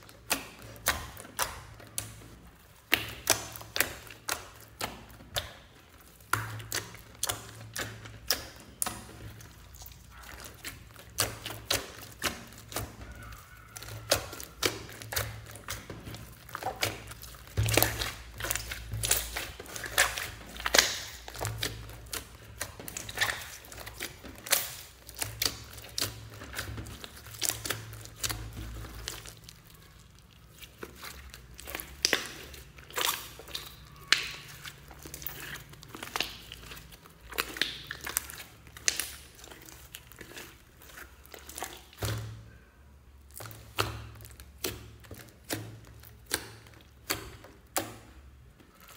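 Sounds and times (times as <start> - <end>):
slime squeezing with wet pops: 0.0 - 48.9.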